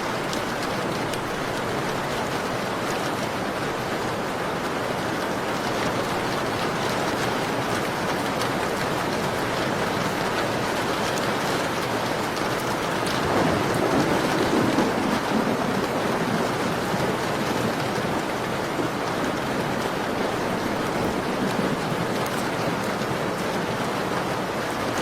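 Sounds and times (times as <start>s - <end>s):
rain on a window: 0.0s - 25.0s.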